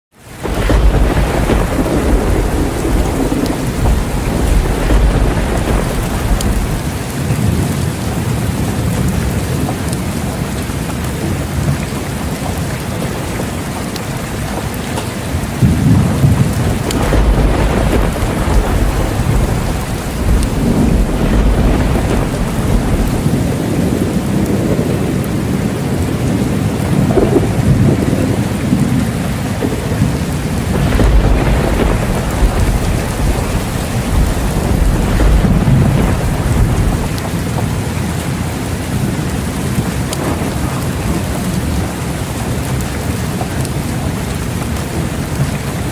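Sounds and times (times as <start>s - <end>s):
heavy rain falling: 0.1s - 45.9s
thunder rumbling: 0.3s - 45.9s.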